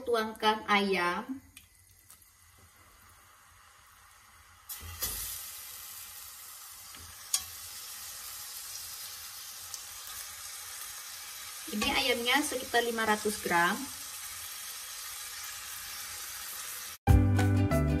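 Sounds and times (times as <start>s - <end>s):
chicken sizzling in a pan: 1.7s - 17.0s.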